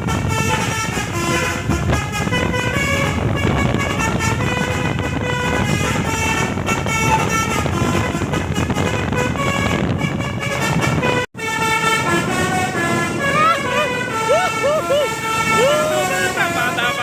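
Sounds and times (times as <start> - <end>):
musical bus horn tune: 0.0 - 17.0
road and engine noise: 0.0 - 17.0.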